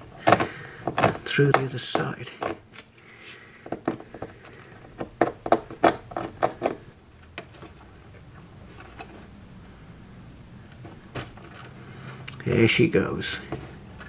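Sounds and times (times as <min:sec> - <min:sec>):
small sharp clicks and scrapes: 0:00.0 - 0:09.4, 0:10.4 - 0:12.4, 0:13.4 - 0:14.0.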